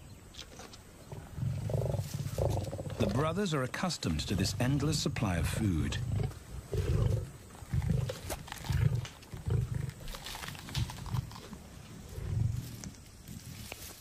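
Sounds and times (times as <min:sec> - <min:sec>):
crunching of feeding: 0:00.3 - 0:14.0
lions growling: 0:01.1 - 0:03.4, 0:04.0 - 0:13.7.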